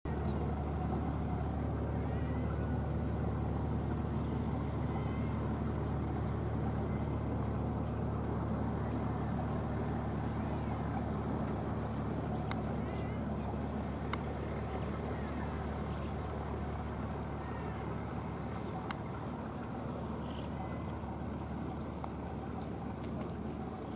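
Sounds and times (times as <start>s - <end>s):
boat engine running: 0.1s - 23.9s.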